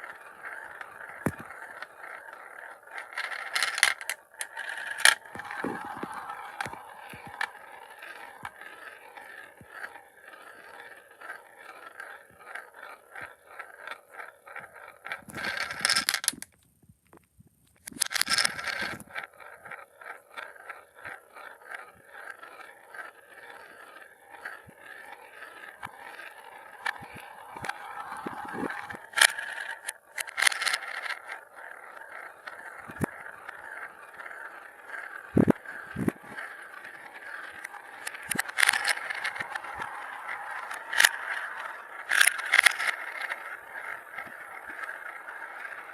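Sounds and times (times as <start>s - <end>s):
marbles clattering together: 0.0s - 13.9s, 15.0s - 16.5s, 17.8s - 19.3s, 20.4s - 45.9s
marbles rolling on marble run: 0.0s - 16.5s, 17.8s - 45.9s.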